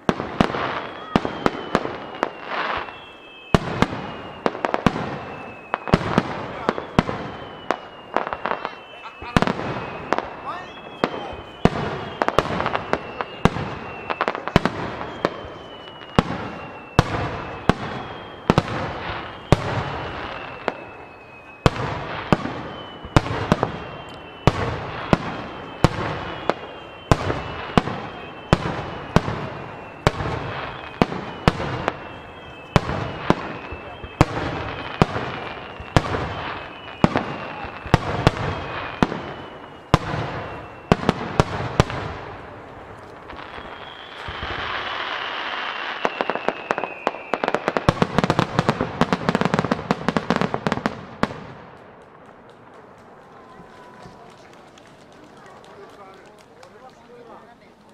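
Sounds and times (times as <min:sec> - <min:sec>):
fireworks bursting with sharp bangs: 0:00.0 - 0:57.9
fireworks crackling: 0:00.0 - 0:57.9
fireworks whistling downward: 0:00.0 - 0:57.9.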